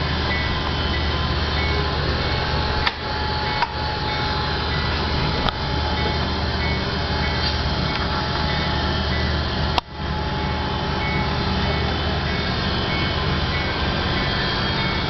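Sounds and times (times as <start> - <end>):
model train rolling hum: 0.0 - 15.0.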